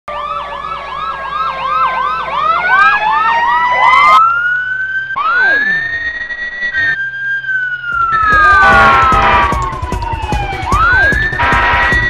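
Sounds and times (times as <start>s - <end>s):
wailing siren: 0.1s - 12.0s
yelping siren: 0.1s - 12.0s.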